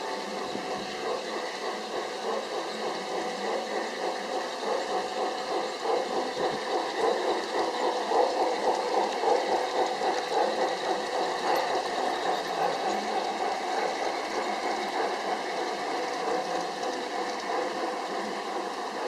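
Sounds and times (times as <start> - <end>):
model train clattering on track: 0.0 - 19.0.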